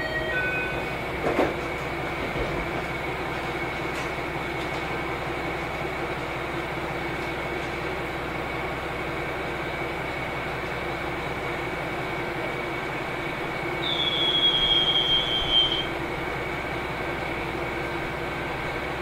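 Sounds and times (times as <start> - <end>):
constant high whine: 0.0 - 19.0
train running rumble: 0.0 - 19.0.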